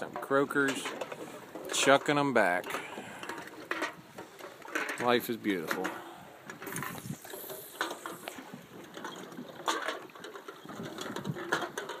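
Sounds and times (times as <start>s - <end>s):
waves slapping against boat: 0.0s - 12.0s.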